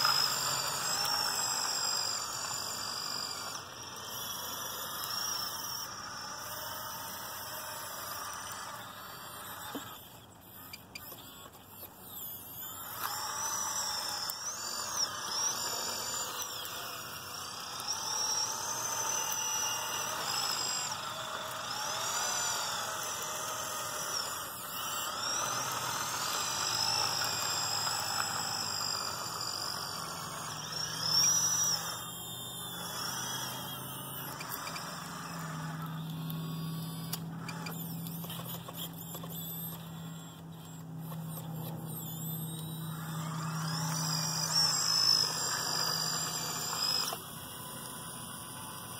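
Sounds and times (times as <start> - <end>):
small electric motors whining: 0.0 - 48.9.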